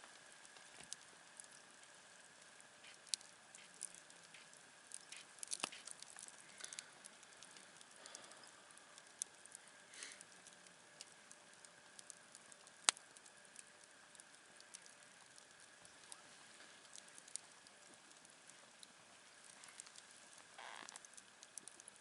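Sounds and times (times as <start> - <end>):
campfire crackling: 0.0 - 22.0
burning wood popping: 0.1 - 22.0.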